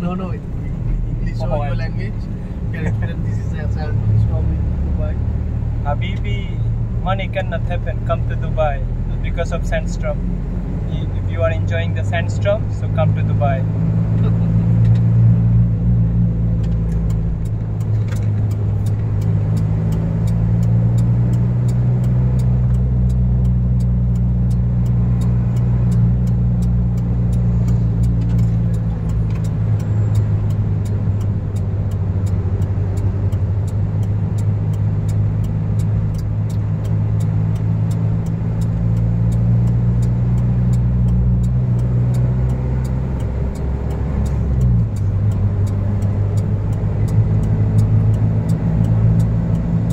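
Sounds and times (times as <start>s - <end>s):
car engine humming: 0.0s - 49.9s
light regular ticking: 0.0s - 49.9s.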